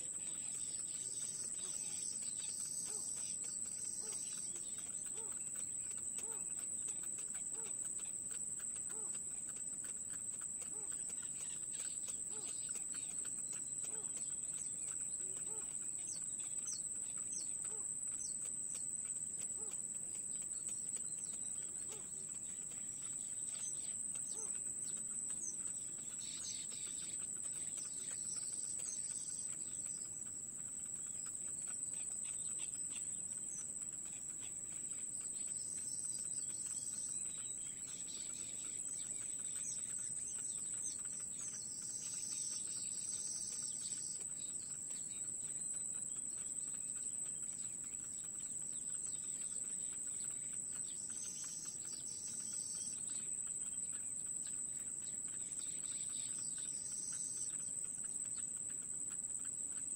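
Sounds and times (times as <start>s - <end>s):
bird chicks chirping and squeaking: 0.0s - 59.9s.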